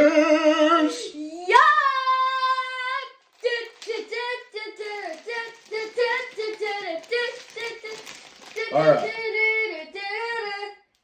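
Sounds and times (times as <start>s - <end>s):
high voice singing: 0.0s - 10.9s.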